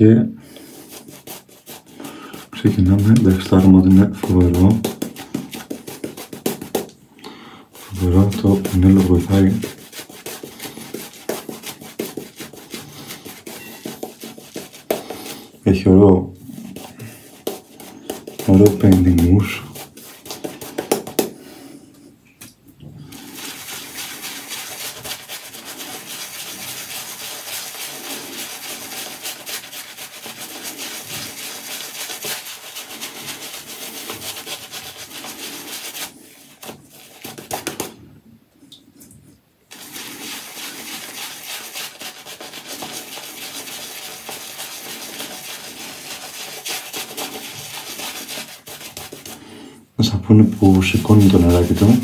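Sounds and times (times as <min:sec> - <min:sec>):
shaving brush scrubbing lather: 0:00.5 - 0:07.0, 0:07.7 - 0:15.7, 0:16.4 - 0:21.4, 0:23.1 - 0:38.0, 0:39.7 - 0:49.5, 0:50.3 - 0:52.0.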